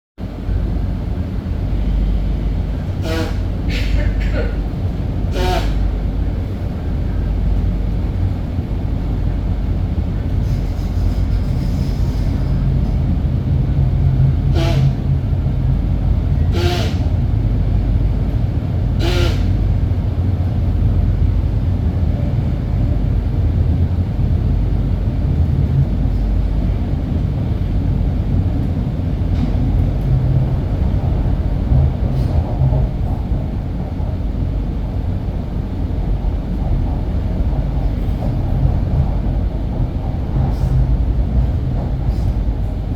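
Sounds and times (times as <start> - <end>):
train rumbling on rails: 0.2 - 42.9.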